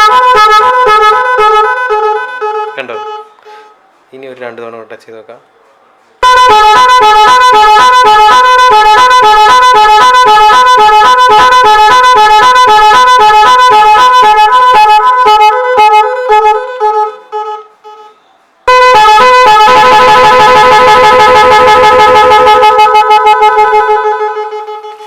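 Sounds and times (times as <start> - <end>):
multi-tone horn melody: 0.0 - 3.4, 6.2 - 25.0.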